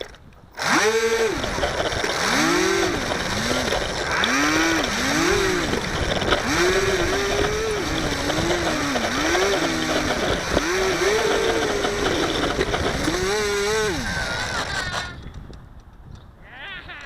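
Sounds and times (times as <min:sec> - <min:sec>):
electric propeller motor whining: 0:00.0 - 0:15.5.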